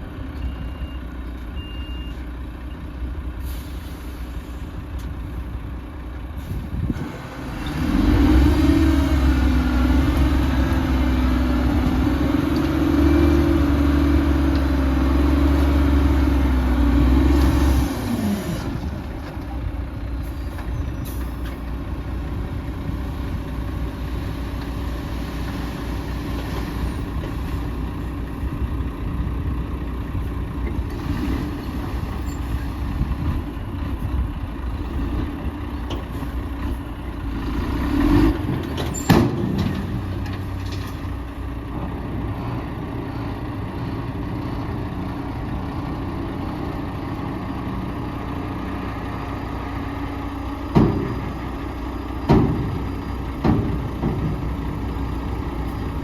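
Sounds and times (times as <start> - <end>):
diesel machinery engine revving: 6.0 - 56.0.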